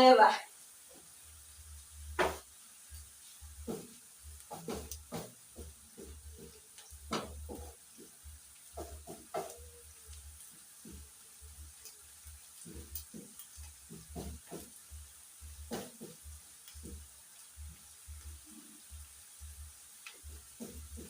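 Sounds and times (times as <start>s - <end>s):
onions frying in oil: 0.0s - 21.0s
pan stirring clicks and scrapes: 2.3s - 21.0s.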